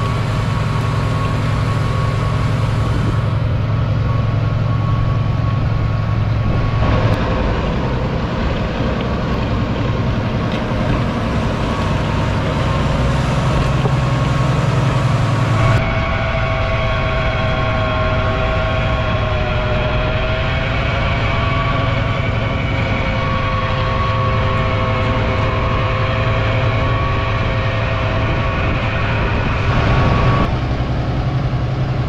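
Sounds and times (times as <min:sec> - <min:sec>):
steady higher whine: 0:00.0 - 0:32.0
tractor diesel engine under load: 0:00.0 - 0:32.0.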